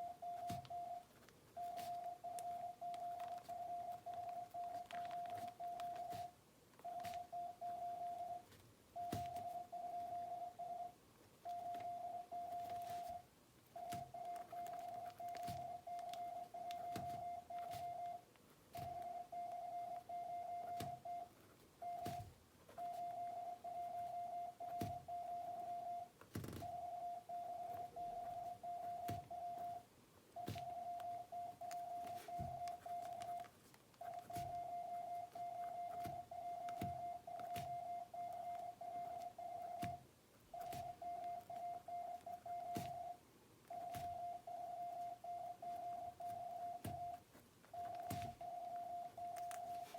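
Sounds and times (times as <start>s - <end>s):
morse code beeping: 0.0s - 18.2s, 18.8s - 49.9s.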